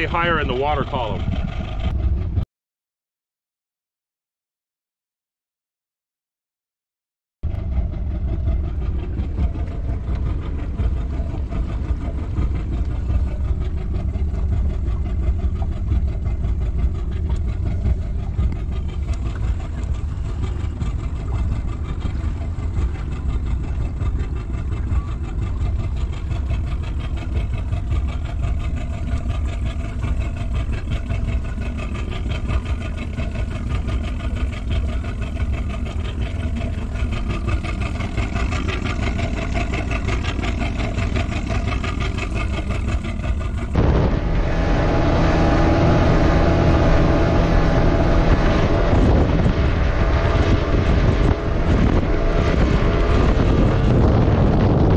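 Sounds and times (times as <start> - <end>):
boat motor running: 0.0 - 2.4, 7.4 - 54.9.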